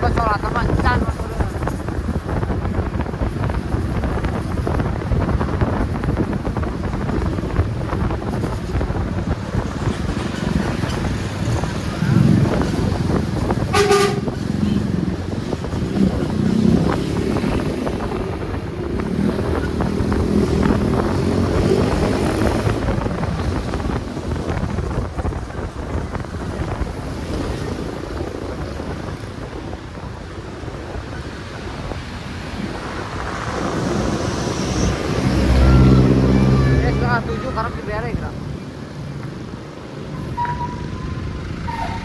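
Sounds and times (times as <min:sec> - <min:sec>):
vehicle engines running: 0:00.0 - 0:42.0
wind buffeting microphone: 0:00.0 - 0:42.0.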